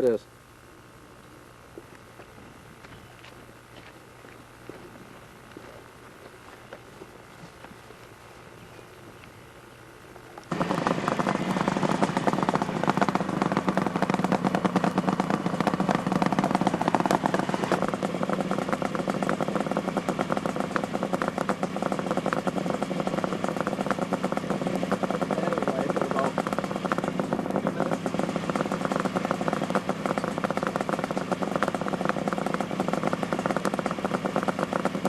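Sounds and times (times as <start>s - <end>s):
motorcycle engine crackling exhaust: 0.0s - 35.0s.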